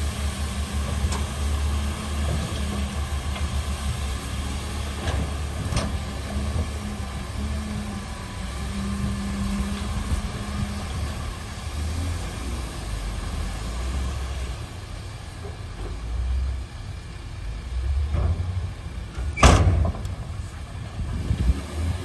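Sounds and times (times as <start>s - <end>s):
heavy diesel machinery rumbling: 0.0s - 22.0s.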